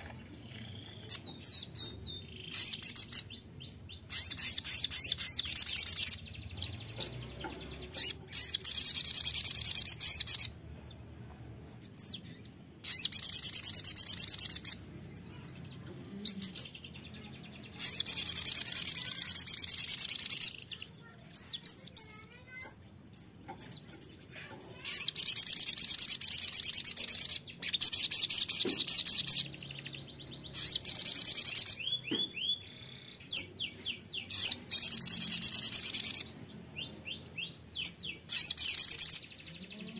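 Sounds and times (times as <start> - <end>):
bird high trilling song: 0.0 - 39.9.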